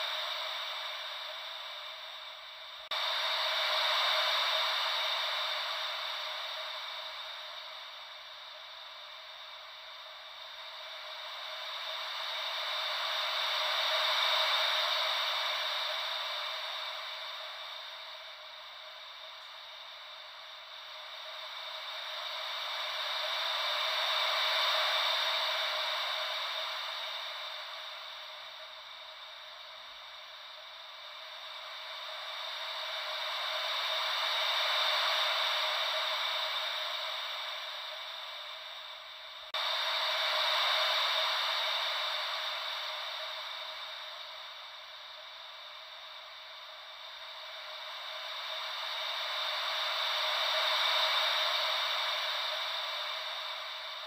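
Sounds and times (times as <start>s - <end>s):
ocean wave white noise: 0.0s - 54.0s.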